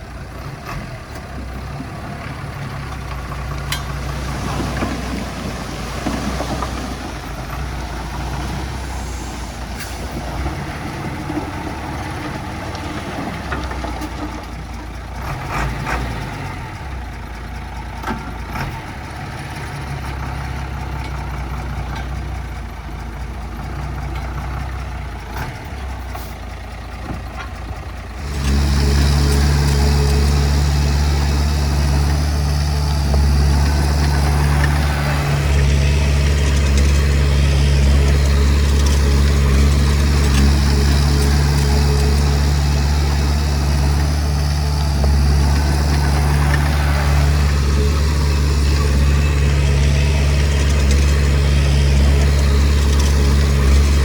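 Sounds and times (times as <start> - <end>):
diesel engine droning under load: 0.0 - 54.0.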